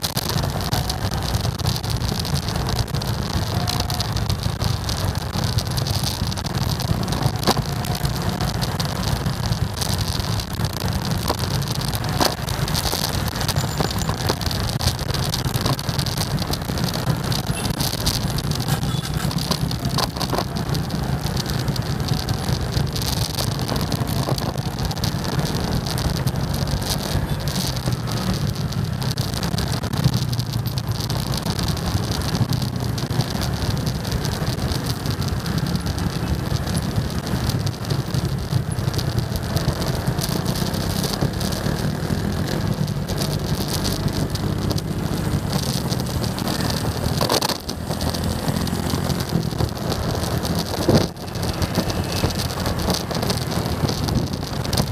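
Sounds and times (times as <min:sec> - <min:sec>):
motorcycle engine hum: 0:00.0 - 0:54.9
scooters and cars: 0:00.0 - 0:54.9
wind and road noise: 0:00.0 - 0:54.9.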